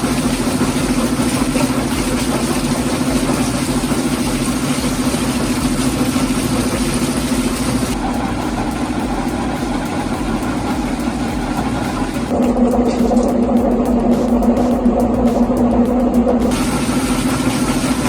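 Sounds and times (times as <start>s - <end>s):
heavy machinery running: 0.0s - 18.0s.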